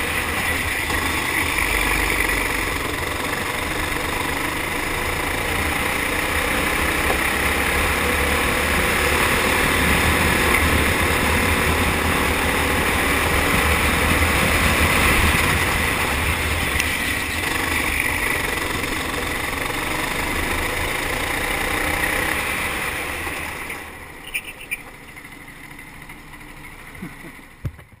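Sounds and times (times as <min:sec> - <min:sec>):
kart engine running: 0:00.0 - 0:28.0.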